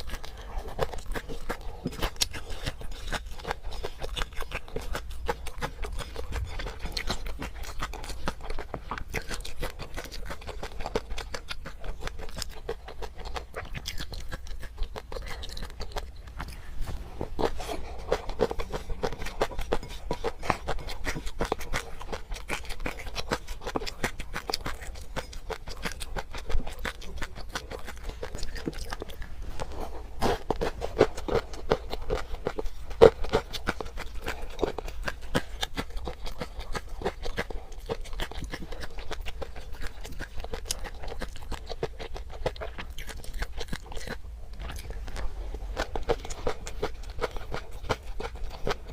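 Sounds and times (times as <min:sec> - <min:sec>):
close chewing crunches: 0:00.0 - 0:48.9.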